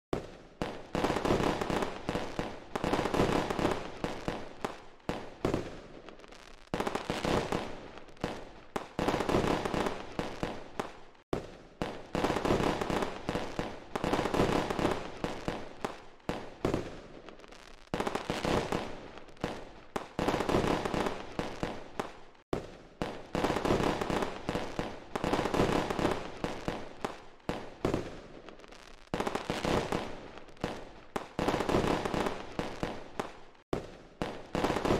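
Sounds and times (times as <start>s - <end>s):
fireworks bangs and crackling: 0.1s - 34.9s.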